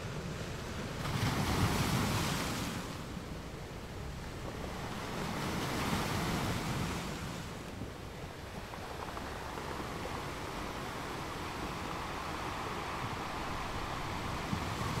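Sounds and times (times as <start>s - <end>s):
sea waves washing onto shore: 0.6s - 15.0s.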